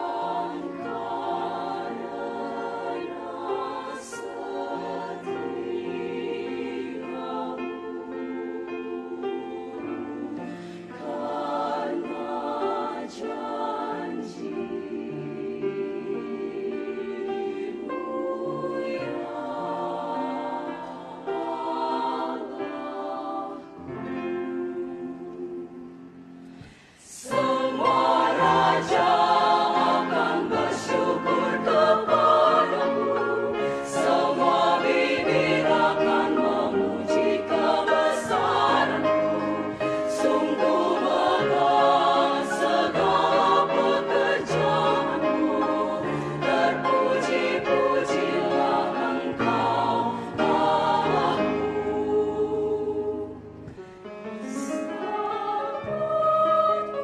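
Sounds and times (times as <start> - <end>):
women's choir singing: 0.0 - 57.0.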